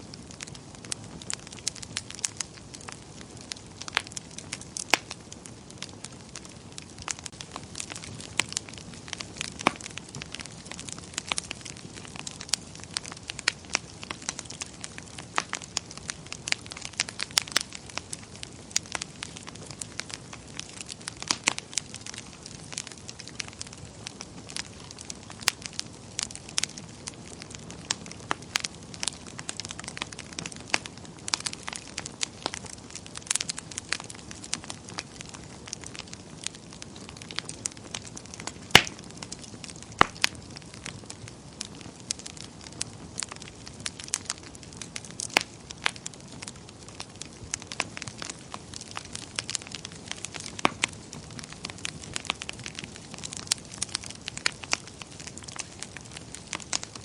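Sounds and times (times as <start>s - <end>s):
fire hissing: 0.0s - 57.0s
wood fire crackling and popping: 0.0s - 57.0s.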